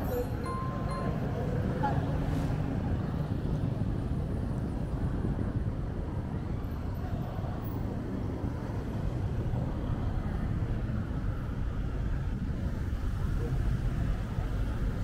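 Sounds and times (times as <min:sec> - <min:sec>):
traffic engines and tyres rumble: 0:00.0 - 0:15.0.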